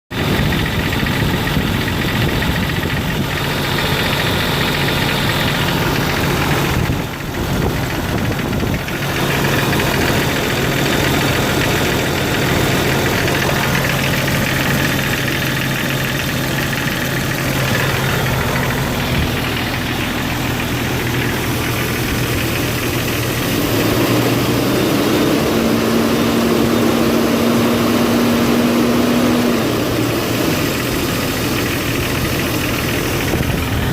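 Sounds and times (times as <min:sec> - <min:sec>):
car engine running: 0:00.1 - 0:33.9
engine ticking: 0:00.1 - 0:33.9.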